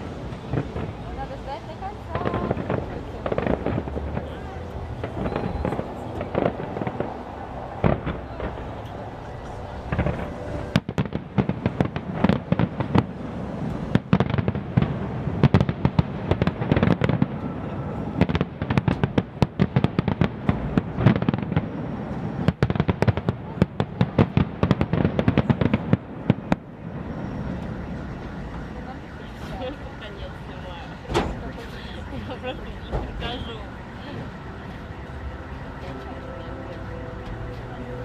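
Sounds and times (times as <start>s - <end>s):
fireworks bangs and crackling: 0.0s - 38.0s.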